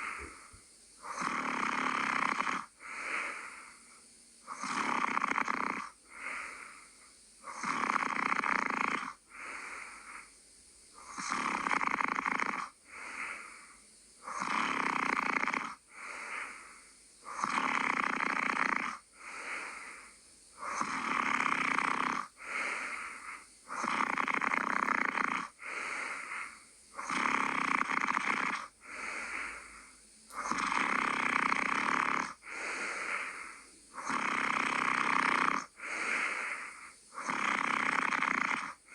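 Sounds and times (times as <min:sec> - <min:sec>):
person snoring: 0:00.0 - 0:10.3, 0:10.9 - 0:38.9.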